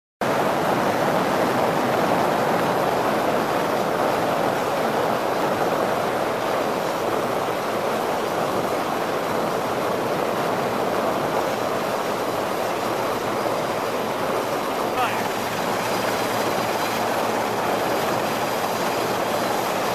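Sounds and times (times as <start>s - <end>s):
boat rushing through water: 0.2s - 19.9s.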